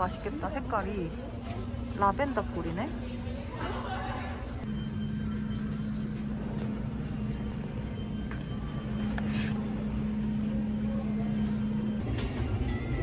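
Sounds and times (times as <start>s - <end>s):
low room hum with rumble: 0.0s - 13.0s.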